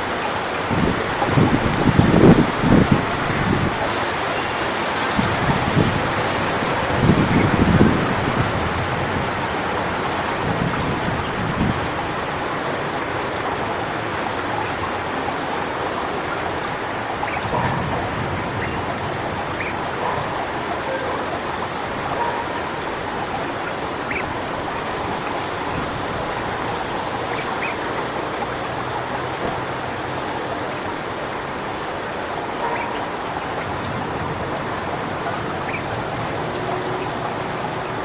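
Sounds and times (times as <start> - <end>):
wind through palm fronds: 0.0 - 38.0.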